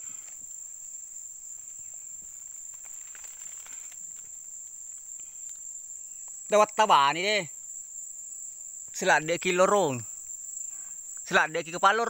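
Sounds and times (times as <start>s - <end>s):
faint ticks and rustles: 0.0s - 12.0s
insects shrilling: 0.0s - 12.0s.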